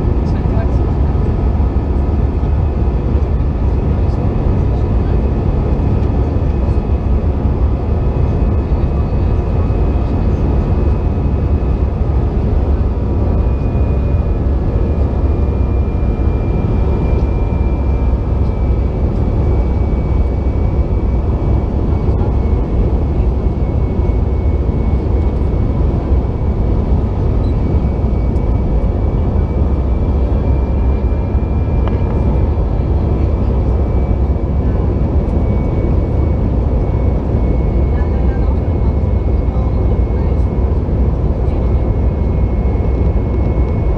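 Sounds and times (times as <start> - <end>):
airplane cabin engine rush: 0.0 - 43.9.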